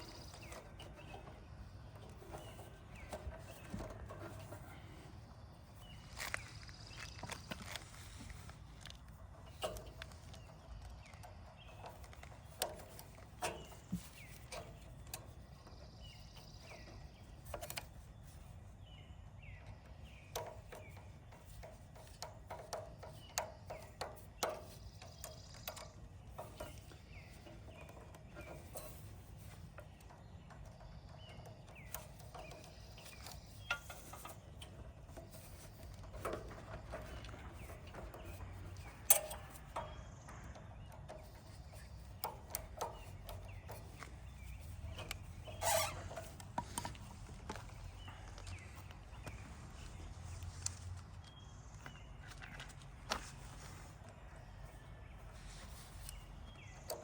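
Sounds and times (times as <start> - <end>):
clicks and light knocks: 5.7 - 18.4, 19.6 - 57.0.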